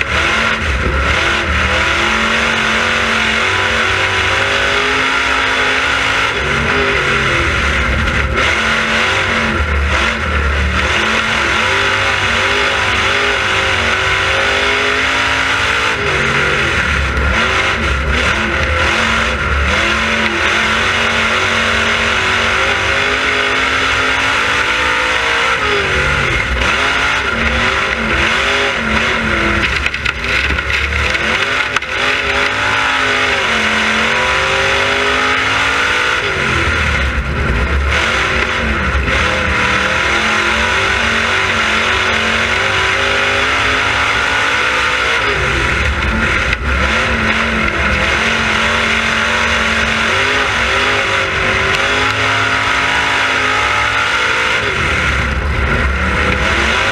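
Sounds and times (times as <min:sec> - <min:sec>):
race car engine: 0:00.0 - 0:56.9.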